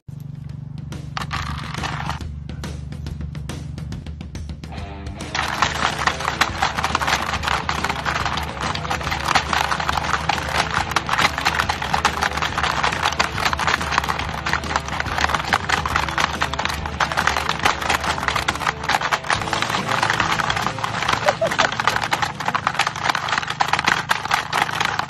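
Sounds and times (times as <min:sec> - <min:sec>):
plastic board game clattering: 0:01.2 - 0:02.2, 0:05.3 - 0:25.0.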